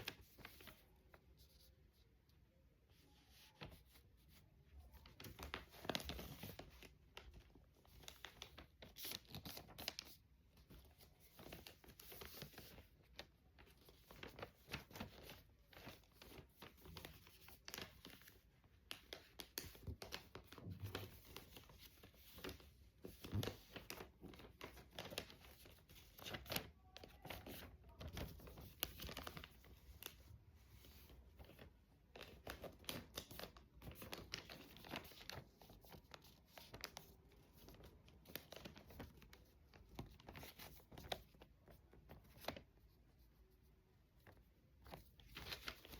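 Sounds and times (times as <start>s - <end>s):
paper being folded and creased: 0.0s - 2.1s, 2.9s - 43.6s, 44.2s - 45.9s.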